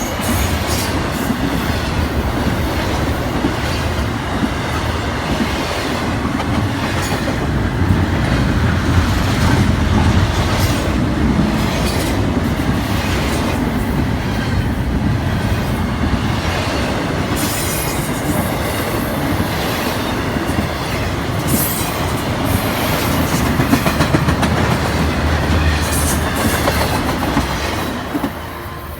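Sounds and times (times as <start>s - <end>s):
freight train wheels clacking: 0.0s - 28.9s.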